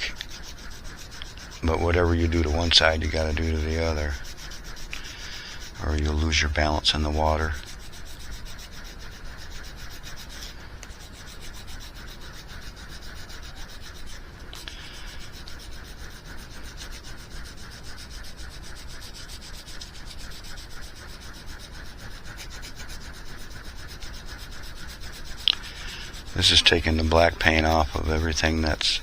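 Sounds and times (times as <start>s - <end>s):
sandpaper rubbing: 0.0s - 29.0s.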